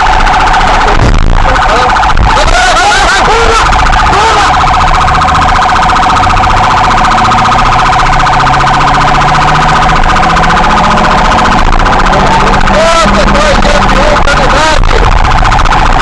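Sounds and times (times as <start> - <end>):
police siren warbling: 0.0 - 16.0.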